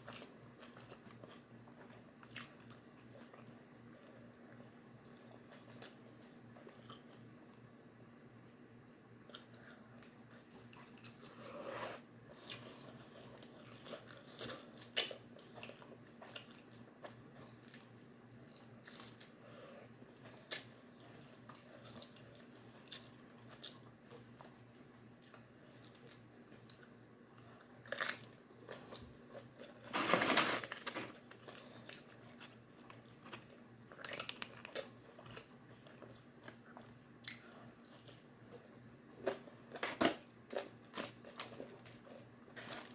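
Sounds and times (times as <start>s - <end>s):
crunching and chewing: 0.0s - 7.6s, 9.2s - 11.5s, 12.3s - 42.9s.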